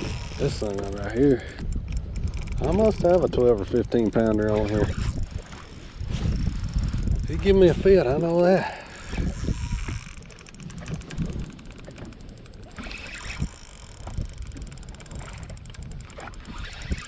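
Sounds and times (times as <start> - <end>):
fishing reel ticking: 0.0 - 17.0
wind rumble on microphone: 0.0 - 17.0.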